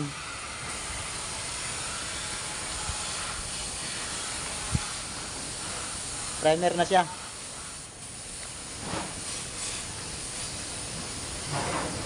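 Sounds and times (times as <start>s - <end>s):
spray gun hissing: 0.0s - 12.0s.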